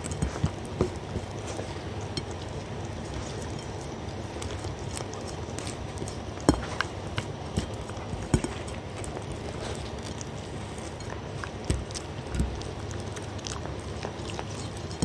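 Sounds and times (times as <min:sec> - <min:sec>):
dog licking from a plate: 0:00.0 - 0:15.0.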